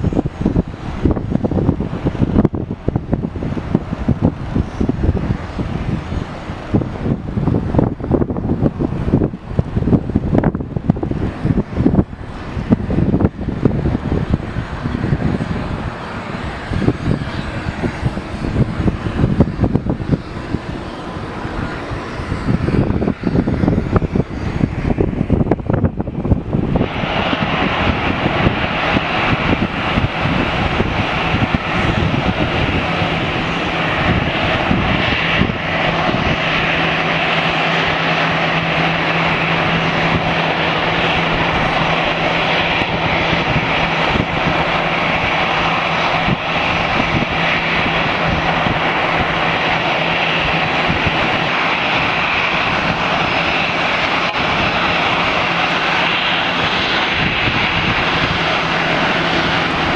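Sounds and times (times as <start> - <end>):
jet engines roaring and whining: 0.0 - 59.9
low hum: 0.0 - 59.9.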